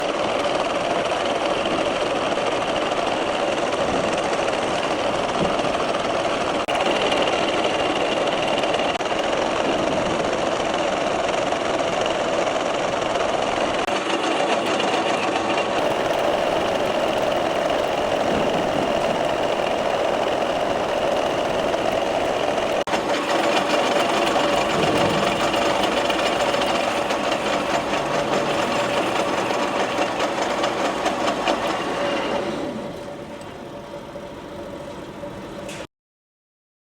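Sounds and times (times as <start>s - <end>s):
machine tool running: 0.0s - 35.9s.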